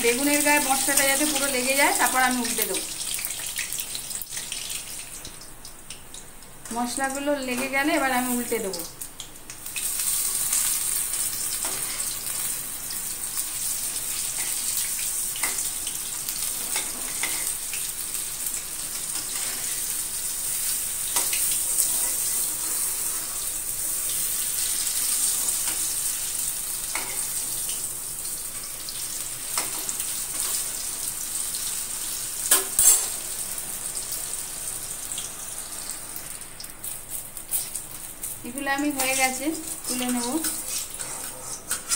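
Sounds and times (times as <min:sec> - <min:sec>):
food sizzling in hot oil: 0:00.0 - 0:41.9.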